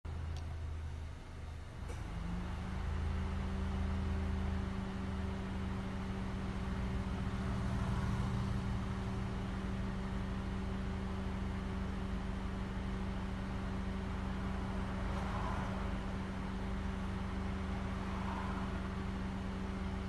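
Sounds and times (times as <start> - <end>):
car engine rumble: 0.0 - 20.0.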